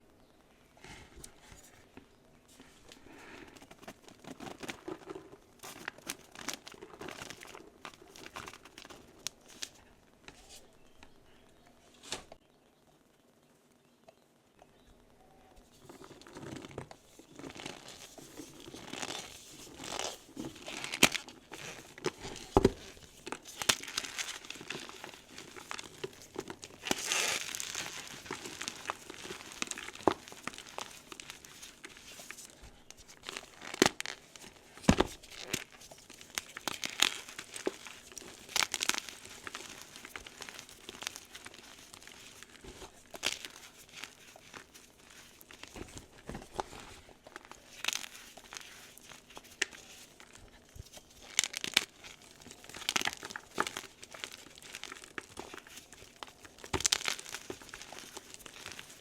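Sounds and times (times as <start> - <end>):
chalk crumbling and crinkling: 0.8 - 12.4, 15.5 - 59.0.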